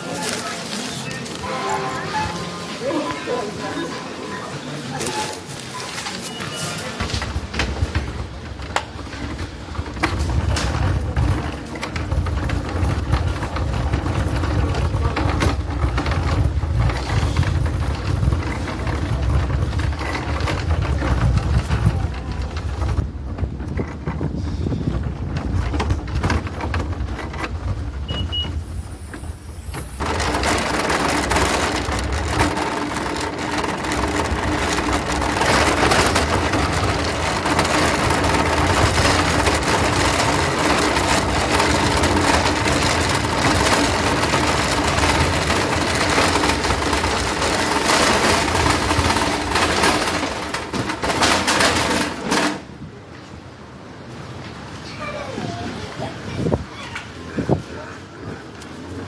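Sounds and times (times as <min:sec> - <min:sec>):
dense background noise: 0:00.0 - 0:59.0.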